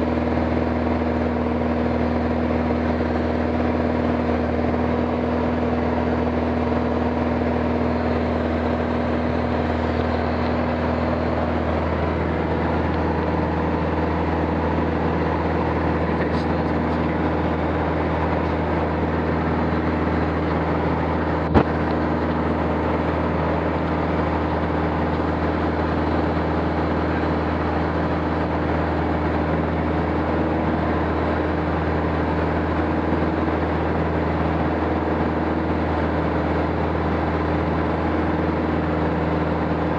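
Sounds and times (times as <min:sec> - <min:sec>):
aircraft engine droning: 0:00.0 - 0:39.9.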